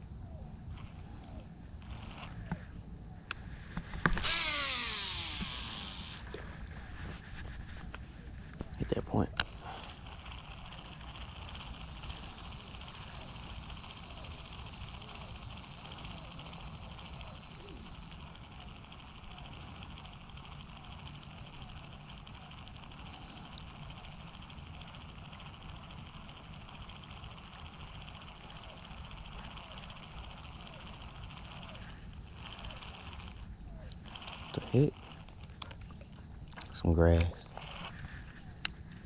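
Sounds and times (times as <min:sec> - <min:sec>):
insects buzzing: 0:00.0 - 0:39.0.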